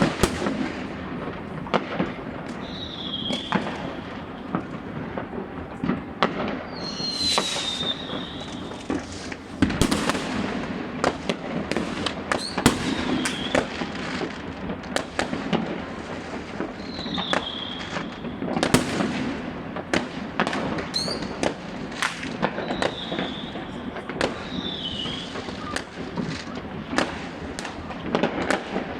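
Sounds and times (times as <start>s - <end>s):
descending firework whistle: 0.0s - 28.6s
firecracker bangs: 0.0s - 28.9s
fireworks crackling: 0.0s - 28.9s.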